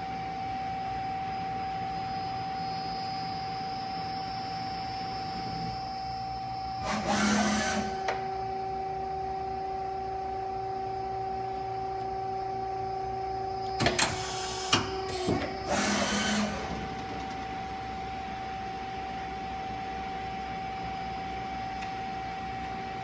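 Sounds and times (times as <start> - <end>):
machine whine: 0.0 - 23.0.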